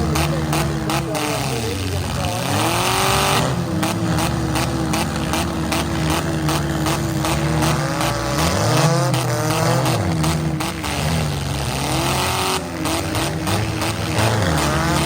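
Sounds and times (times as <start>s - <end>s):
car engines revving: 0.0s - 15.0s
knocks and clatter: 0.0s - 15.0s.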